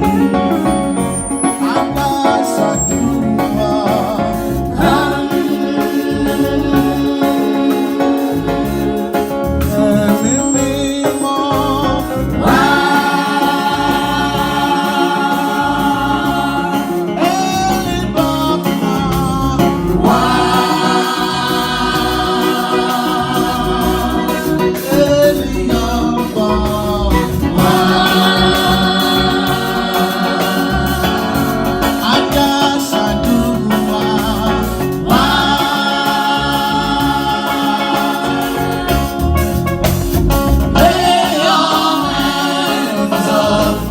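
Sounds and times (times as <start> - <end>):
choir singing a hymn: 0.0 - 43.9
instrumental backing: 0.0 - 43.9.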